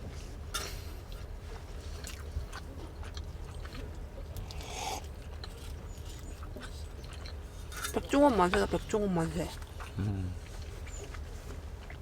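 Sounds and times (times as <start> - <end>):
person chewing food: 0.6 - 8.1, 9.5 - 12.0.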